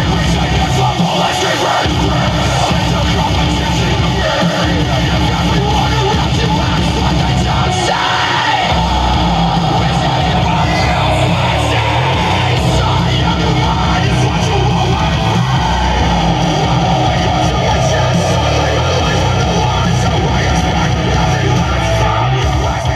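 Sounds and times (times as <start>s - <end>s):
heavy metal song with electric guitar: 0.0s - 22.9s.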